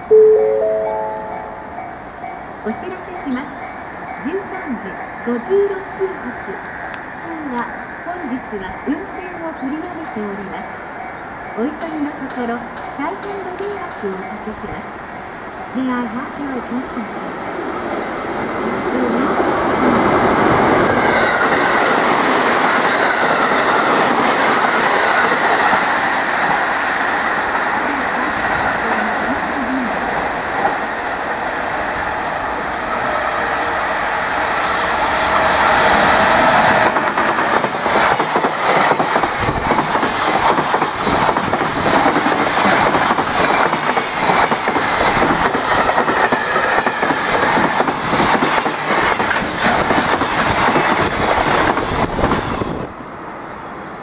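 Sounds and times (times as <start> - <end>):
freight train running noise: 0.0 - 54.0.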